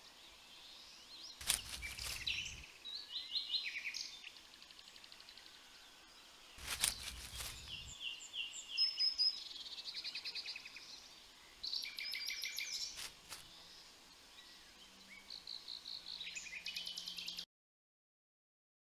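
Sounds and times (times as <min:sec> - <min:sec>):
songbirds singing and chirping: 0:00.0 - 0:17.5.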